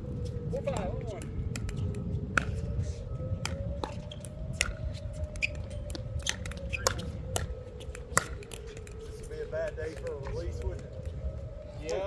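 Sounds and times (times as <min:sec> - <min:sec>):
droning tone: 0:00.0 - 0:12.0
wind buffeting microphone: 0:00.0 - 0:12.0.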